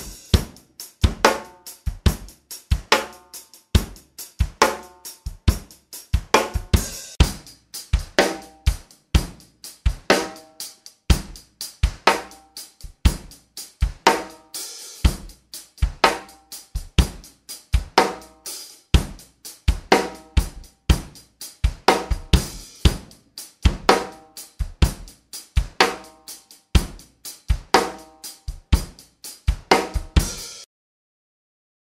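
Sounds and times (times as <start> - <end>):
drum kit beat: 0.0 - 30.7.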